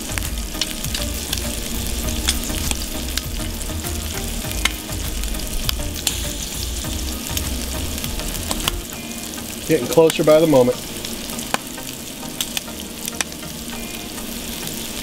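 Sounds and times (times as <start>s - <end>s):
food sizzling on grill: 0.0s - 15.0s.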